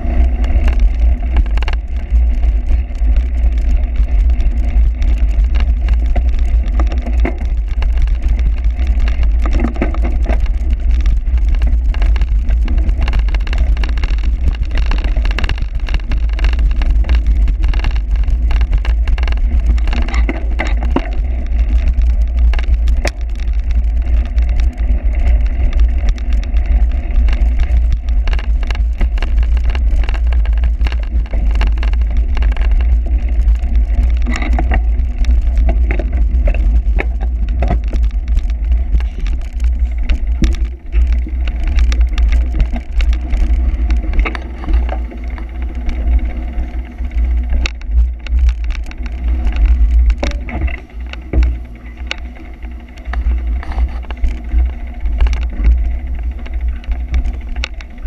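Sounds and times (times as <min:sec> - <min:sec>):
bicycle knocks and rattles: 0:00.0 - 0:58.0
bicycle rumbling over rough ground: 0:00.0 - 0:58.0.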